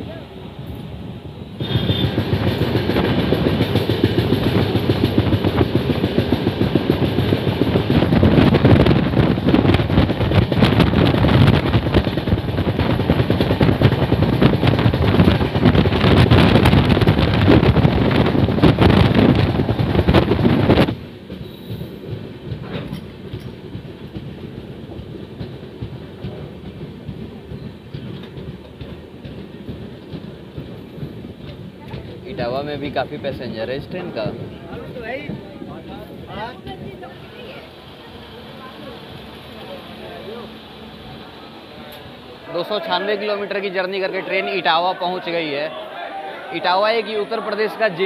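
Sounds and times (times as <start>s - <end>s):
train rumbling at speed: 0.0s - 48.0s.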